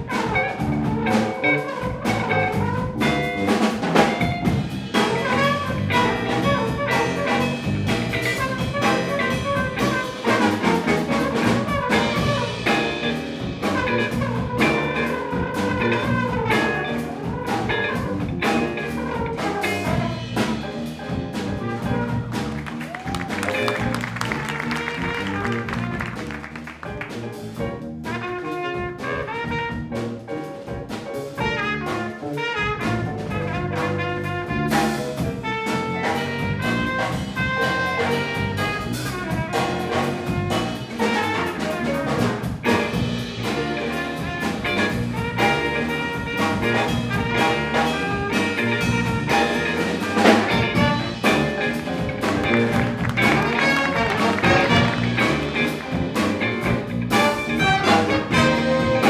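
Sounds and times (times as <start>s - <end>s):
live jazz ensemble: 0.0s - 59.0s.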